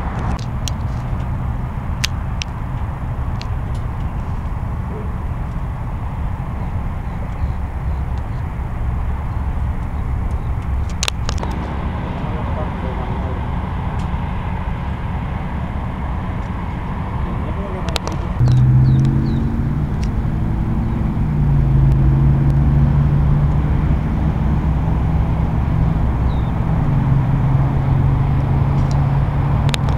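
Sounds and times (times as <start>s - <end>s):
low engine rumble: 0.0s - 29.9s.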